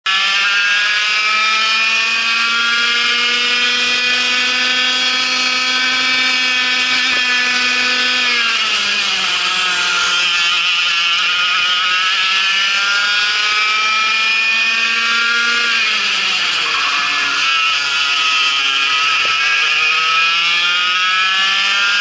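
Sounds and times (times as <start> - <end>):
kart engine at high revs: 0.0 - 22.0.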